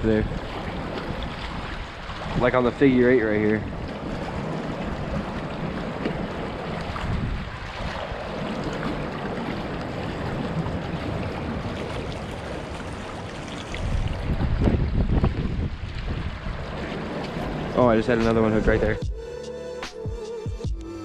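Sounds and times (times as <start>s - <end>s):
floodwater rushing: 0.0s - 19.0s
wind buffeting microphone: 0.0s - 19.0s.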